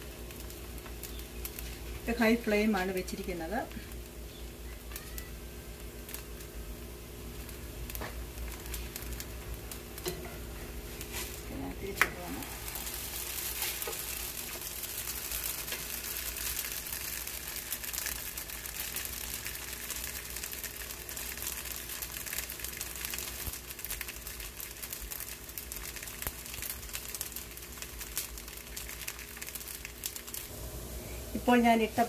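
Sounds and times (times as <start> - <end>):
flatbread sizzling in skillet: 0.0 - 32.0.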